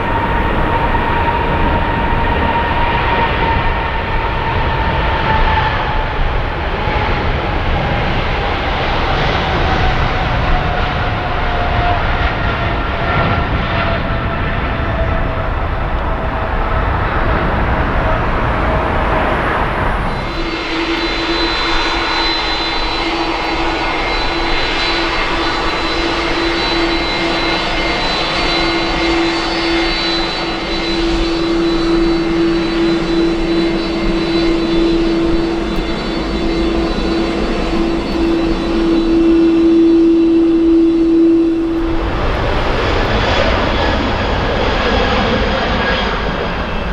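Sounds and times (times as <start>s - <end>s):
passing jet noise: 0.0s - 46.9s
steady jet engine hum: 0.0s - 46.9s.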